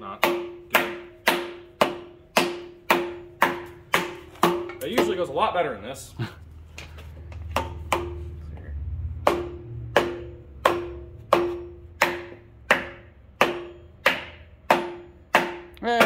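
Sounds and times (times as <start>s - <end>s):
hammer striking metal: 0.0s - 5.4s, 7.4s - 8.4s, 9.1s - 16.0s.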